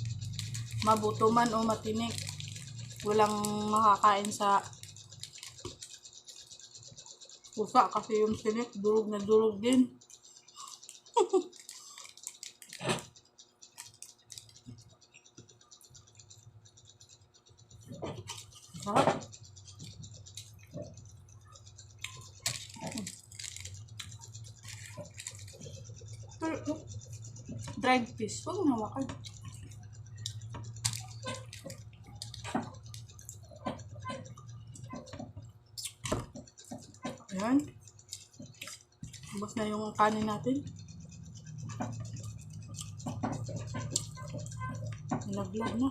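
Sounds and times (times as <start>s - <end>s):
chewing crisp food: 0.0s - 3.6s, 4.3s - 7.6s, 10.0s - 16.4s, 17.0s - 27.8s, 29.1s - 35.2s, 35.8s - 39.5s, 40.7s - 45.2s.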